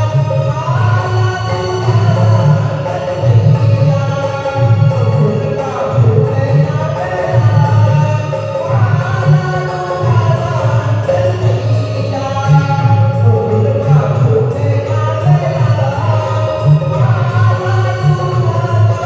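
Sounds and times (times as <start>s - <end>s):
devotional singing: 0.0s - 19.0s.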